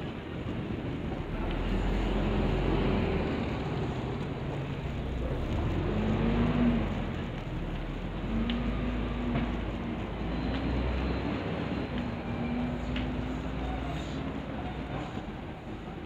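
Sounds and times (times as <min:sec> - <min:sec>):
engine hum: 0:00.0 - 0:16.0
traffic rumble: 0:00.0 - 0:16.0.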